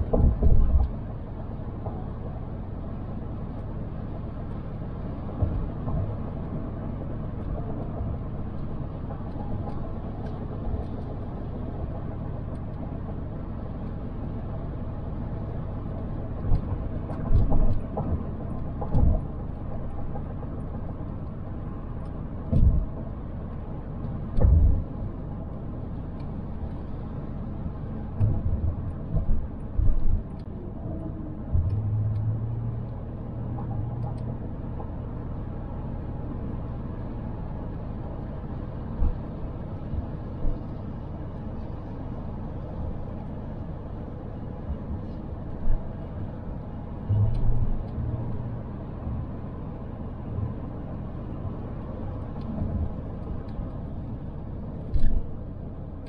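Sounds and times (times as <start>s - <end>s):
low road rumble: 0.0s - 56.0s.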